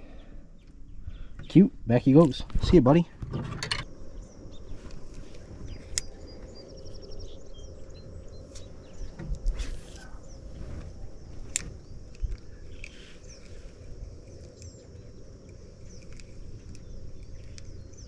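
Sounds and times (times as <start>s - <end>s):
birds chirping: 0.0s - 18.0s
low wind rumble: 0.0s - 18.0s.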